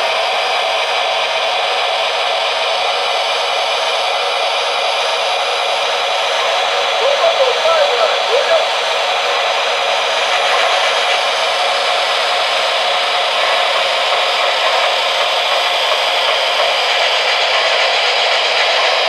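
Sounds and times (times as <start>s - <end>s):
model train turbine hiss and whine: 0.0s - 19.0s.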